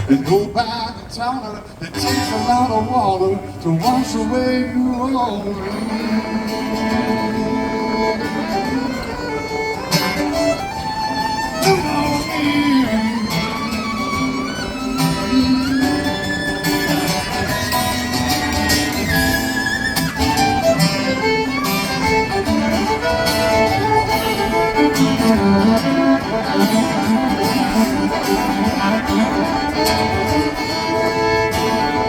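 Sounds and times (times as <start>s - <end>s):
guitar accompaniment: 0.0s - 32.0s
fiddle playing lead: 2.0s - 32.0s.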